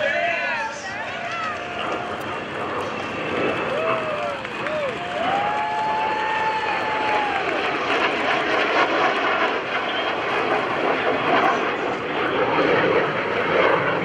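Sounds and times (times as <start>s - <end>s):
jets flying past: 0.6s - 14.0s.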